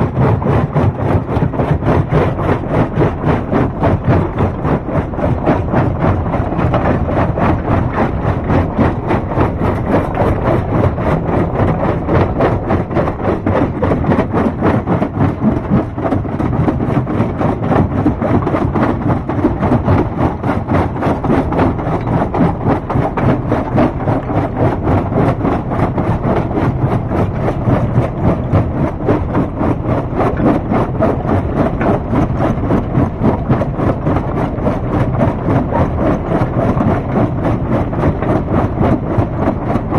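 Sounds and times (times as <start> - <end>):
rapid clatter: 0.0 - 39.9.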